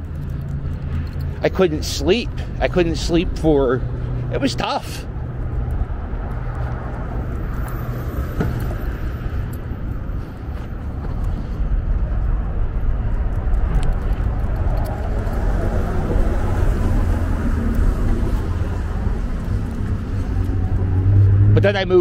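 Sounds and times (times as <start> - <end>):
highway traffic drone: 0.0 - 22.0.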